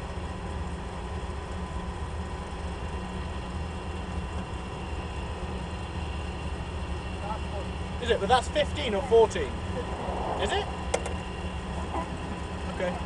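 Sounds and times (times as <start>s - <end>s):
race car engine idling: 0.0s - 13.0s.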